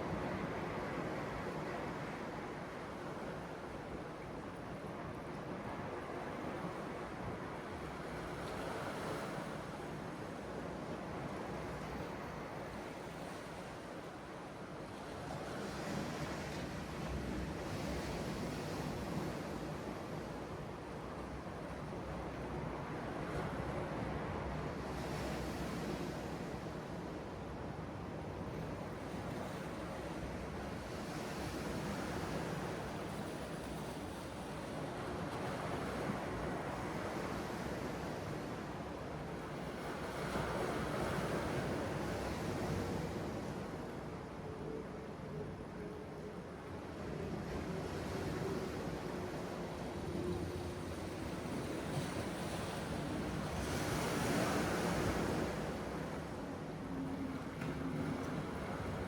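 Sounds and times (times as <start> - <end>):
wind: 0.0 - 59.0.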